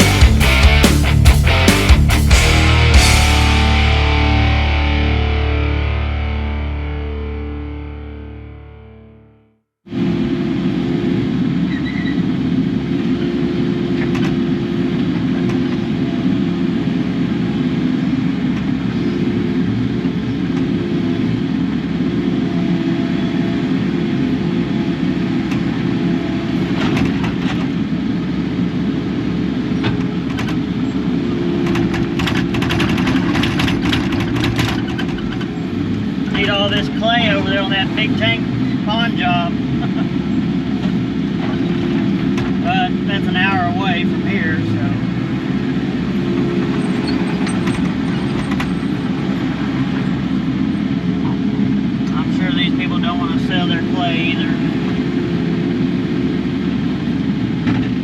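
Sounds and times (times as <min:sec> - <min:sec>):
excavator engine humming: 0:00.0 - 0:09.2, 0:09.9 - 0:58.0.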